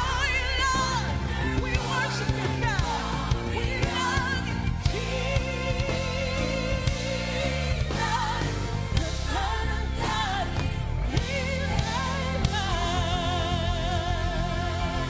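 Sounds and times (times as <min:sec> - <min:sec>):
gospel band playing: 0:00.0 - 0:15.0
woman singing lead: 0:00.0 - 0:15.0.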